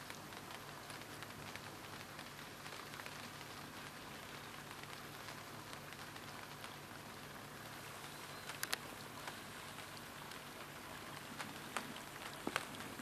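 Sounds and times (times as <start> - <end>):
light rain pattering on water: 0.0 - 13.0.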